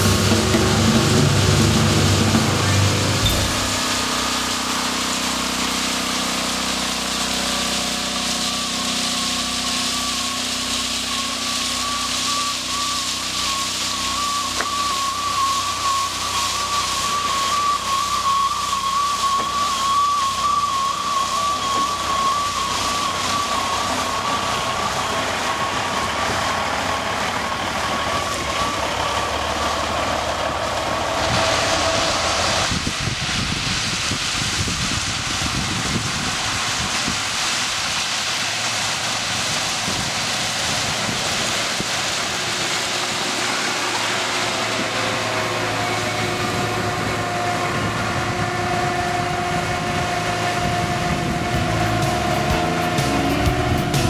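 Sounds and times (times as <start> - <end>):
machine engine: 0.0 - 54.0
rail truck whining past: 0.0 - 54.0.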